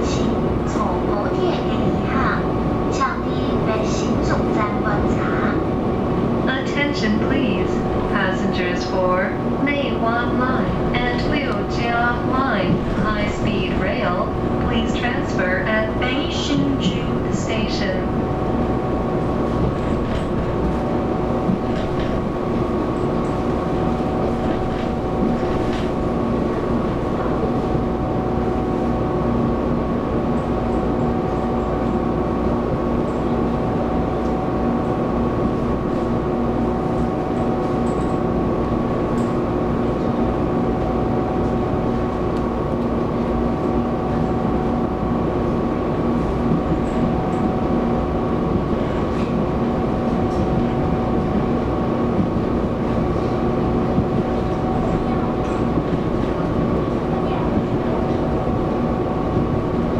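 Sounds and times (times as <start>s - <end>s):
electric train hum: 0.0s - 59.9s
wheels rumbling on track: 0.0s - 59.9s.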